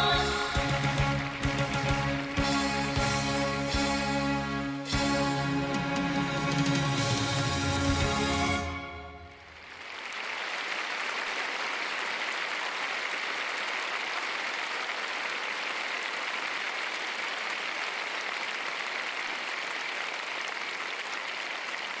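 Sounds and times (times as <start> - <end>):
audience applauding: 0.0 - 4.1, 4.9 - 22.0.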